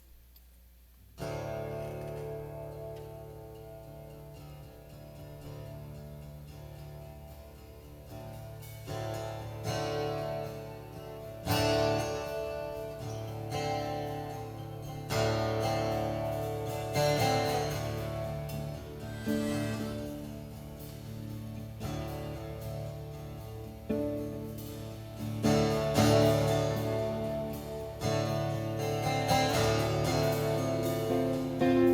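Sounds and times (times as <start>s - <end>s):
guitars strumming chords: 1.2s - 31.9s.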